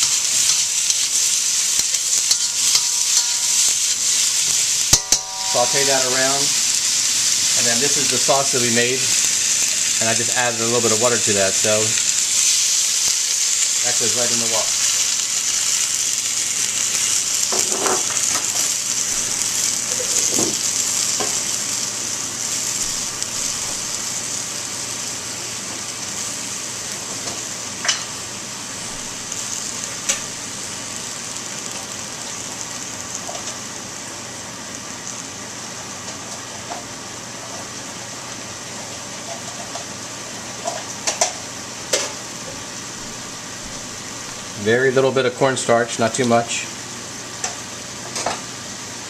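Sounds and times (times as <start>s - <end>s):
vegetables sizzling in a wok: 0.0s - 49.0s.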